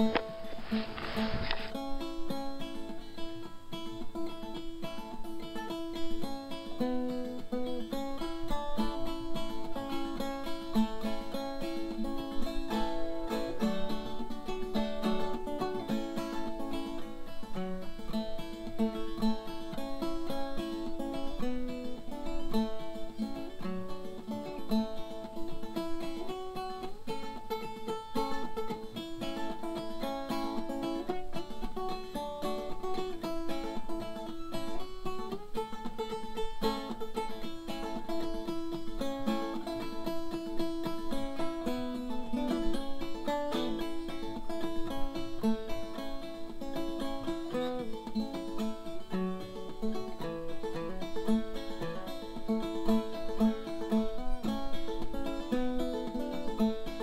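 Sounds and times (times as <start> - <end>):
acoustic guitar melody: 0.0 - 57.0.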